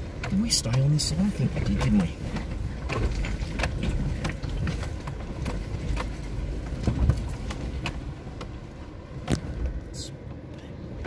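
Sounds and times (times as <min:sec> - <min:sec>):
vehicle body rattling: 0:00.0 - 0:10.0
vehicle rumble: 0:00.0 - 0:11.0.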